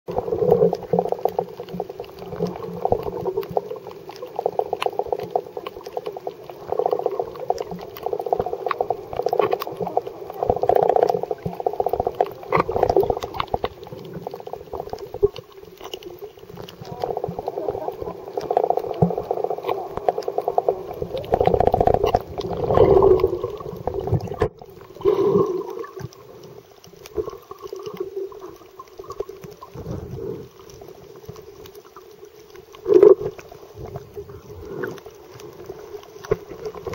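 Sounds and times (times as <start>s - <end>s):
muffled underwater water surging: 0.1s - 36.9s
small crackling clicks: 0.1s - 36.9s.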